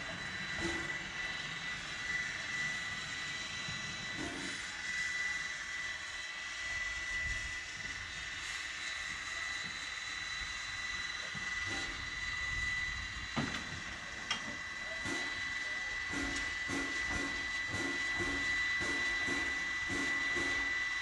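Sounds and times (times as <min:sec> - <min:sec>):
constant high whine: 0:00.0 - 0:21.0
steam hissing: 0:00.0 - 0:21.0.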